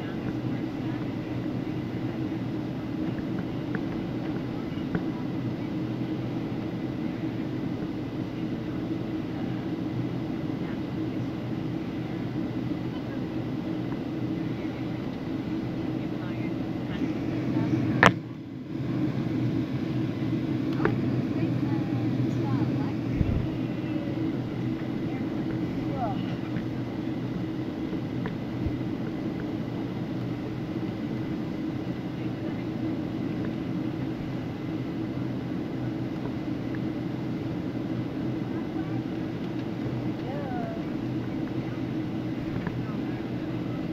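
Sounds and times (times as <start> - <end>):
vehicle cabin drone: 0.0 - 43.9.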